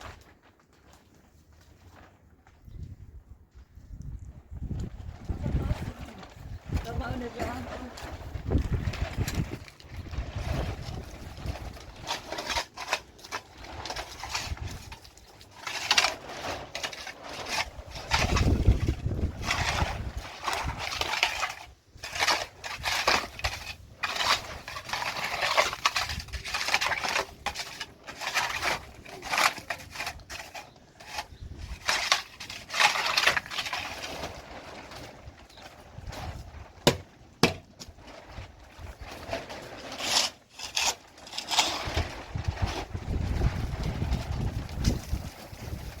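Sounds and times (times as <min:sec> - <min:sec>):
objects rustling and scraping: 0:00.0 - 0:46.0.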